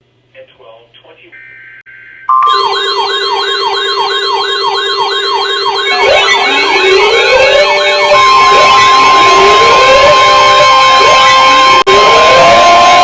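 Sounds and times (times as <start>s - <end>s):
electronic siren yelping: 2.3s - 13.0s
siren wailing: 2.3s - 13.0s.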